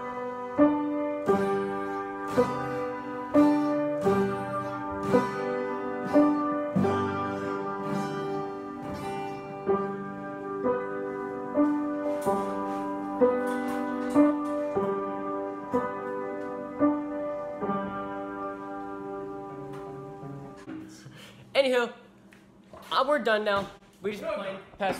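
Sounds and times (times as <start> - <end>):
acoustic guitar strumming: 0.0 - 21.3.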